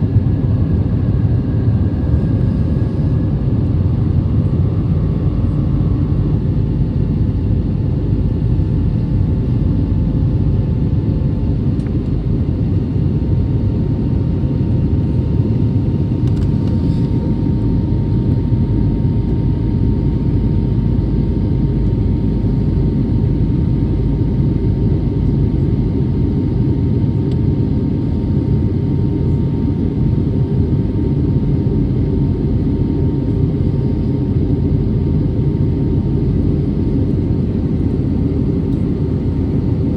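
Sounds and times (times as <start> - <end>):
low rumble of engines and airflow: 0.0 - 39.9.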